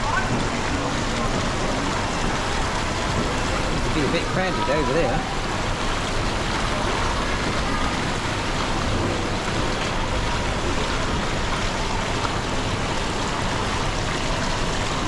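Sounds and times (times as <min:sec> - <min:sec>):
running and bubbling water: 0:00.0 - 0:15.0.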